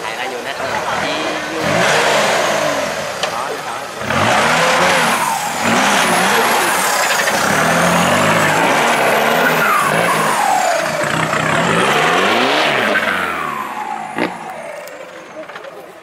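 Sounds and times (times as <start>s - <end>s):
engine revving hard: 0.3s - 15.8s
tyres spinning in dirt: 0.6s - 16.0s.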